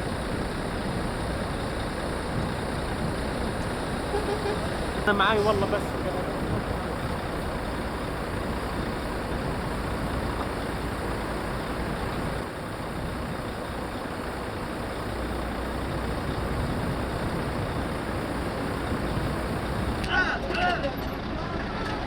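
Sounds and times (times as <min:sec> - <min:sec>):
road noise: 0:00.0 - 0:22.0
truck engines rumbling: 0:00.0 - 0:22.0.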